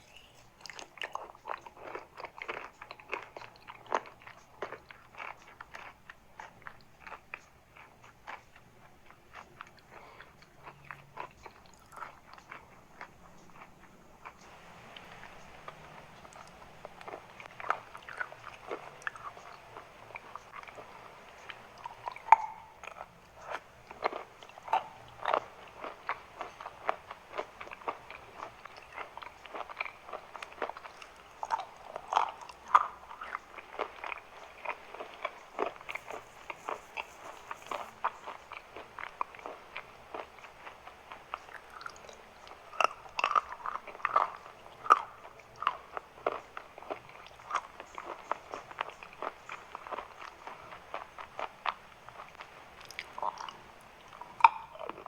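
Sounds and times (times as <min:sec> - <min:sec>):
chewing and crunching chalk: 0:00.0 - 0:55.0.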